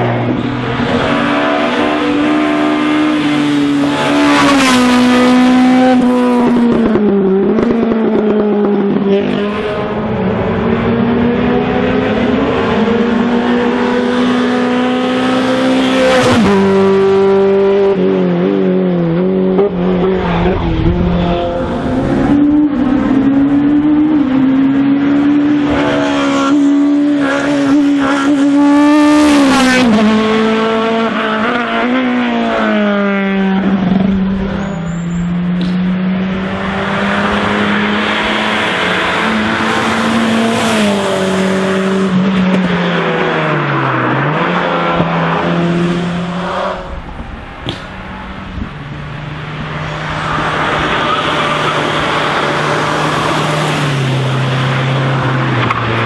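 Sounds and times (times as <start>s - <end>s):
race car engines at high revs: 0.0s - 56.0s.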